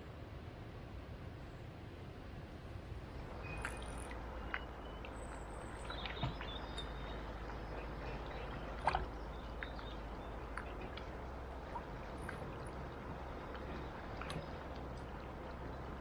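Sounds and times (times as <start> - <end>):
low wind rumble: 0.0 - 16.0
river water rushing: 2.8 - 16.0.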